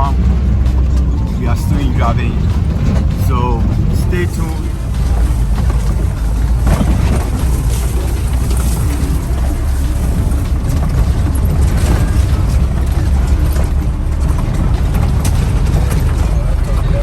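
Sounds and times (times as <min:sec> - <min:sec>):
car engine and road noise: 0:00.0 - 0:17.0
faint rattles and clicks: 0:00.0 - 0:17.0.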